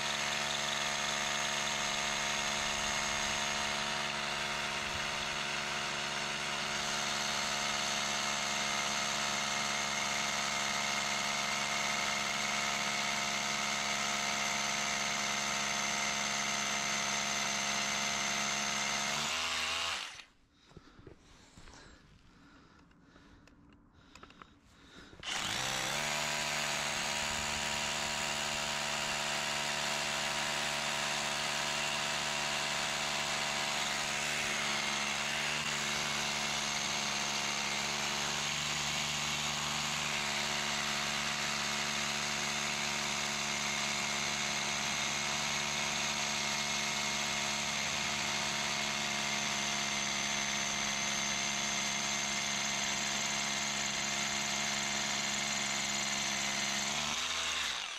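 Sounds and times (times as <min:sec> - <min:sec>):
power tool working into rock: 0:00.0 - 0:20.4, 0:24.1 - 0:57.9.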